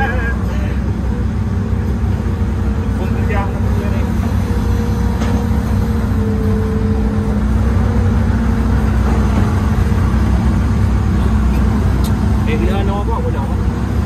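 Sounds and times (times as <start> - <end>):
diesel engine drone: 0.0 - 14.0.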